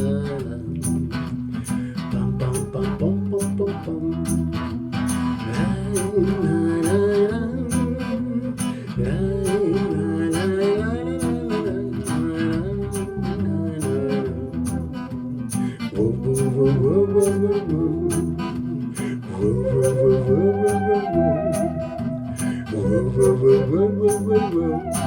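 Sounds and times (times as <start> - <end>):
bass guitar: 0.0 - 25.0
plucked guitars: 0.0 - 25.0.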